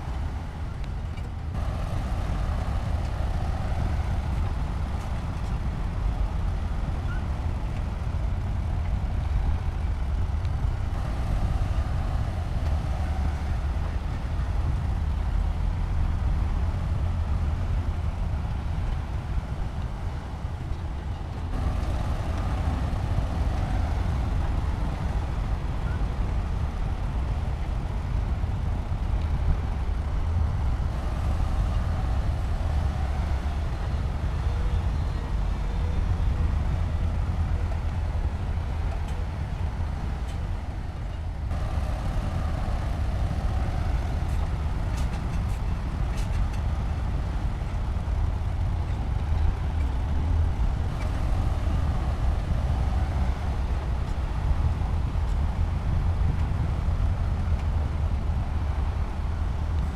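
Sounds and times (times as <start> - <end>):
diesel construction machinery running: 0.0 - 59.9.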